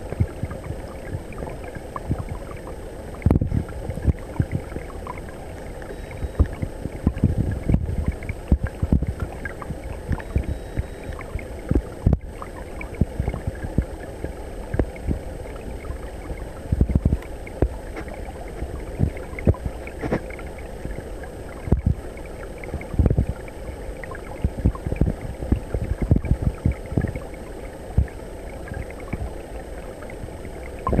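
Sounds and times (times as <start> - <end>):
low underwater thuds and gurgles: 0.0 - 31.0
underwater stream wash: 0.0 - 31.0.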